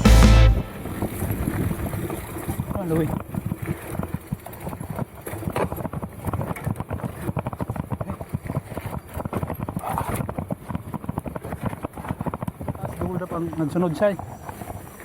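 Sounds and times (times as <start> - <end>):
mountain bike rattling on trail: 0.8 - 15.0.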